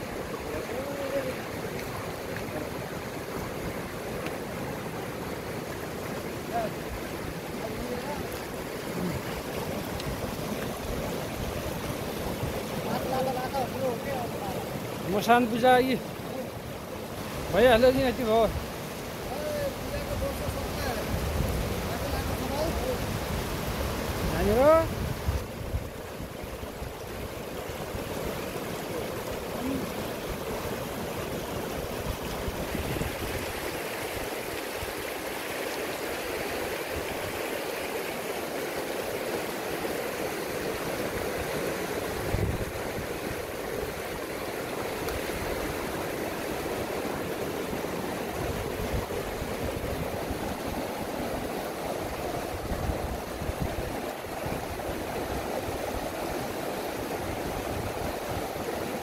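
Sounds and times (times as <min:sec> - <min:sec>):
river rushing over boulders: 0:00.0 - 0:59.0.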